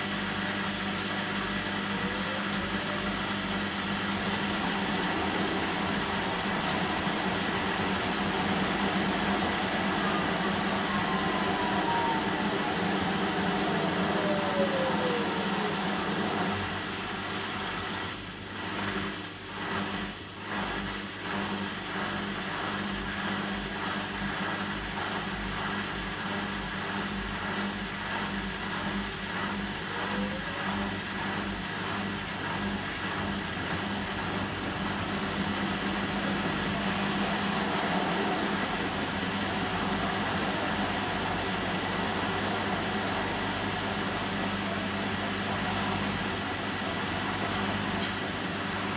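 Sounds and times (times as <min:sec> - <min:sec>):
washing machine drum whine: 0:00.0 - 0:48.9
washing machine motor hum: 0:00.0 - 0:48.9.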